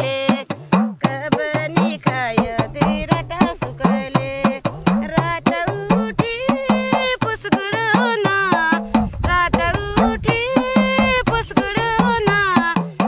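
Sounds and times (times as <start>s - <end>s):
hand drum beat: 0.0s - 13.0s
person singing folk music: 0.0s - 13.0s.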